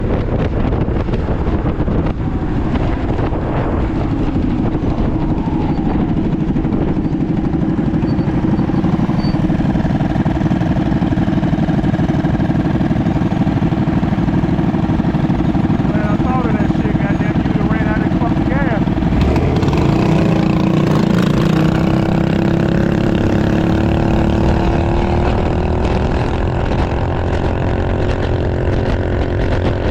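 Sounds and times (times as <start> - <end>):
mini bike engine running: 0.0 - 29.9.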